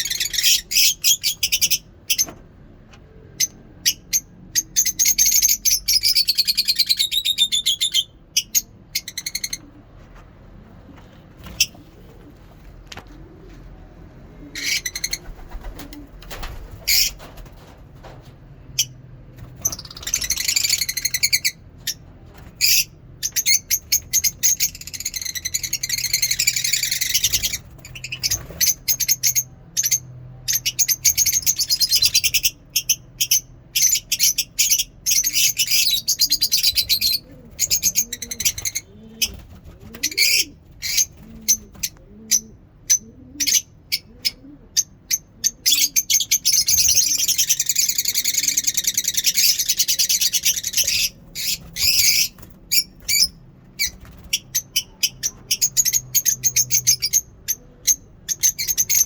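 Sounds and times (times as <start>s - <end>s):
lovebirds chirping and chattering: 0.0s - 10.2s, 13.5s - 17.4s, 18.5s - 59.0s.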